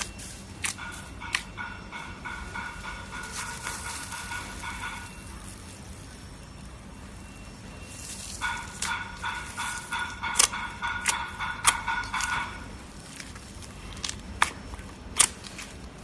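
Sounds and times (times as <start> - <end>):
slime crackling and popping: 2.3 - 16.0.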